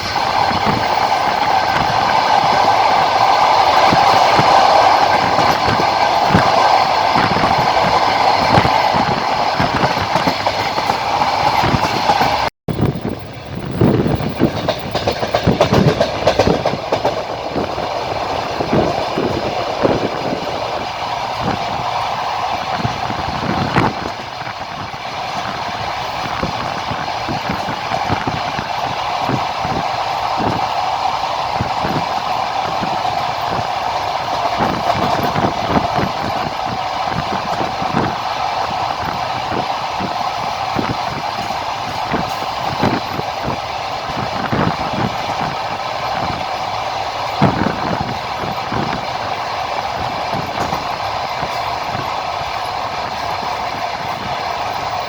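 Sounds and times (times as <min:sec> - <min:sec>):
train wheels rumbling on rails: 0:00.0 - 0:55.0
wheels clacking over rail joints: 0:00.0 - 0:55.0.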